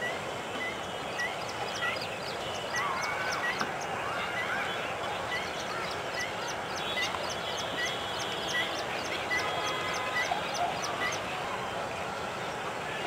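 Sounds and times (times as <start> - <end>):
bird chirping: 0.0 - 11.3.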